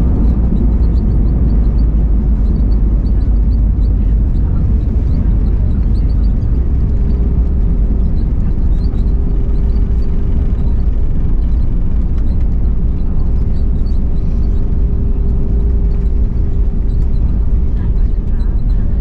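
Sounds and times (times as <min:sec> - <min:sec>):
jet engines idling: 0:00.0 - 0:19.0.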